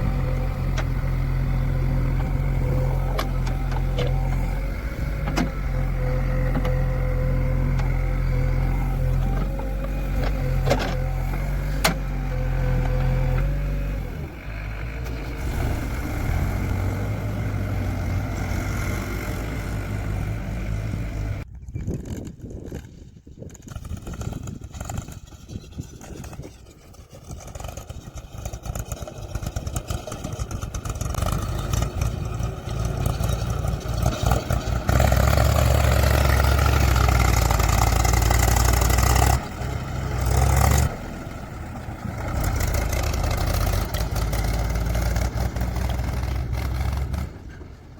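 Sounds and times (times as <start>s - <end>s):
vehicle engines running: 0.0s - 21.5s, 23.6s - 47.9s.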